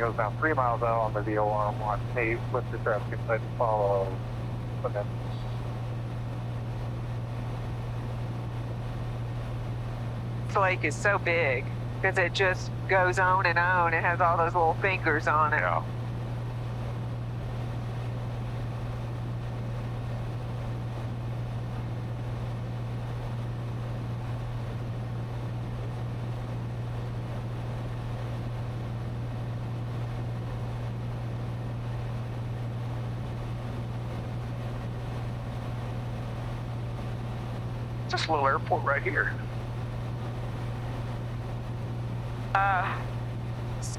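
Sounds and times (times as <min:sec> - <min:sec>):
airflow rushing in cabin: 0:00.0 - 0:43.9
airplane engine drone: 0:00.0 - 0:43.9.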